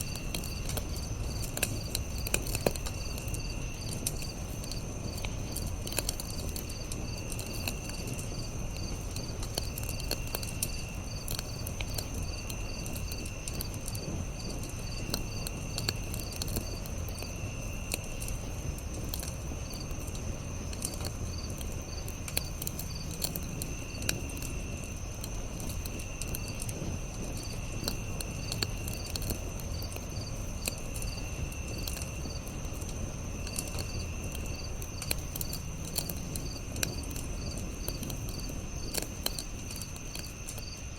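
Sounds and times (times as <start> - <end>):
campfire crackling and popping: 0.0 - 40.9
high insect trill: 0.0 - 40.9.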